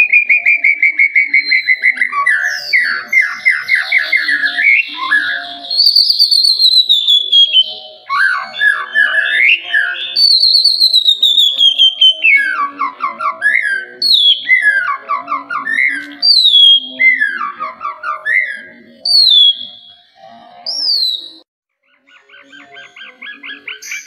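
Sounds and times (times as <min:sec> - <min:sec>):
bird singing whistled notes: 0:00.0 - 0:21.5.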